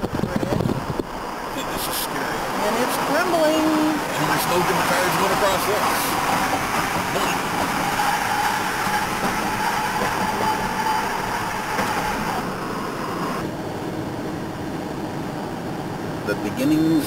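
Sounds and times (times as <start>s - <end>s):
car engine: 0.0s - 17.0s
tyre and road noise: 0.0s - 17.0s.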